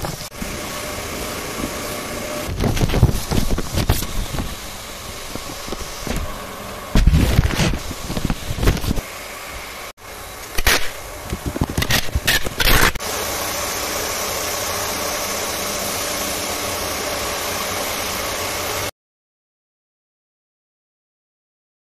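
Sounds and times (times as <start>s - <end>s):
mechanical hum with whines: 0.0s - 18.9s.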